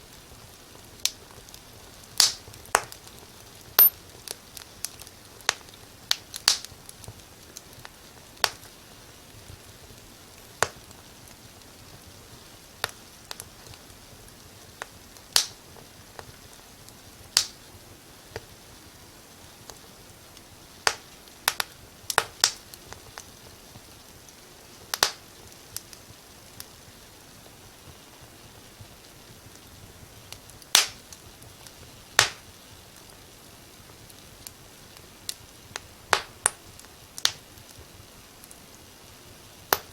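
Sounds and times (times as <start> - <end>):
soft steady hiss: 0.0 - 39.9
wood fire crackling: 0.0 - 39.9.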